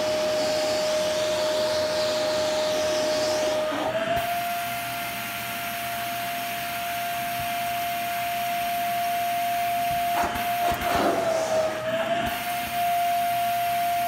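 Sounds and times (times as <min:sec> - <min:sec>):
vacuum cleaner whine: 0:00.0 - 0:14.0.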